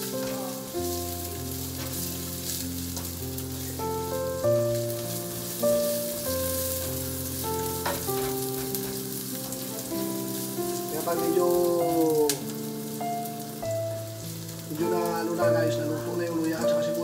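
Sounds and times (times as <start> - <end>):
background music of held notes: 0.0 - 17.0
onion sizzling in frying pan: 0.0 - 17.0.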